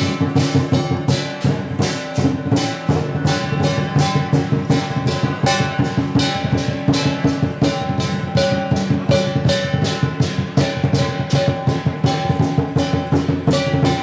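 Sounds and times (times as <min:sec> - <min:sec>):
cymbal crashes: 0:00.0 - 0:14.0
drum beat: 0:00.0 - 0:14.0
gong: 0:00.0 - 0:14.0.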